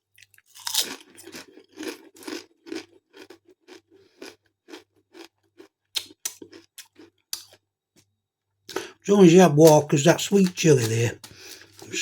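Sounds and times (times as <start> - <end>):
potato crisps crunching: 0.0 - 7.6, 8.7 - 12.0.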